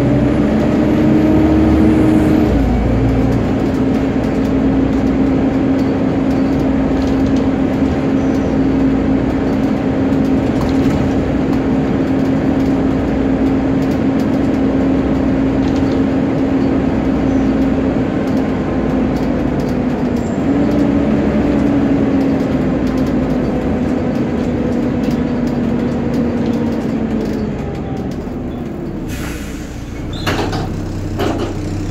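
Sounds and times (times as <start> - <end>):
engine and road rumble: 0.0 - 31.9
engine cooling fan whining: 0.0 - 31.9.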